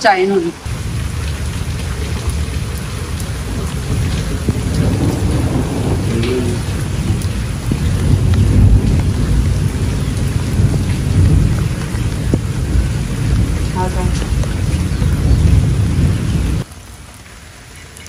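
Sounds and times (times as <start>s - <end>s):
heavy rain splashing: 0.0s - 18.0s.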